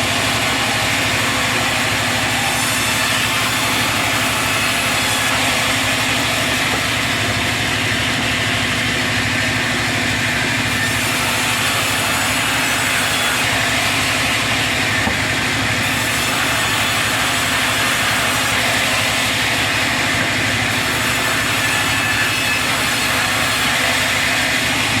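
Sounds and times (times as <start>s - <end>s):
sawmill saw cutting log: 0.0s - 25.0s.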